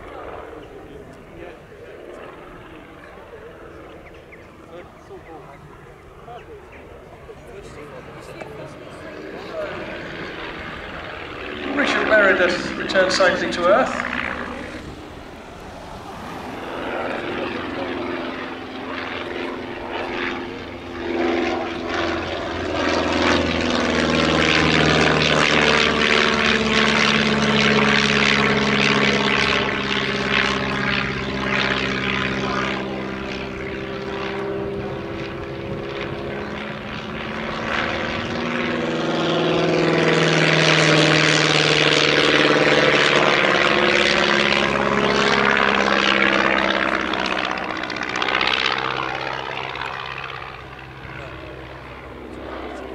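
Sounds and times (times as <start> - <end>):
biplane engine and propeller: 0.0 - 52.9.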